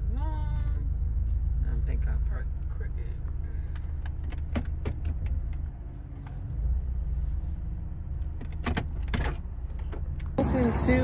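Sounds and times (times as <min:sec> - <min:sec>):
car engine rumble from cabin: 0:00.0 - 0:11.0.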